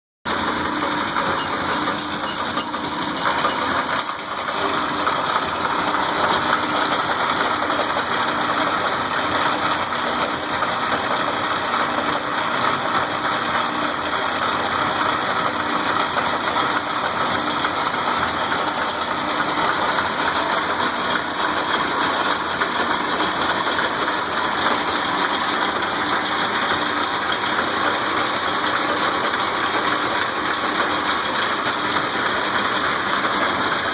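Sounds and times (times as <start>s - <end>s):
belt-driven lathe clattering: 0.3s - 33.9s.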